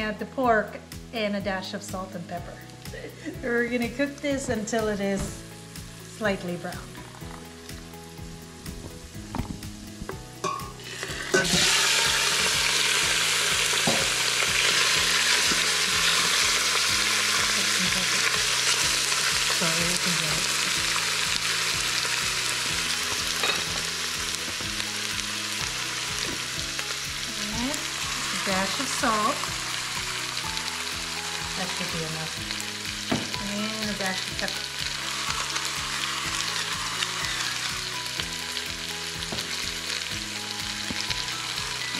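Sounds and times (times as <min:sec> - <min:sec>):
meat sizzling in hot oil: 0:02.0 - 0:41.9.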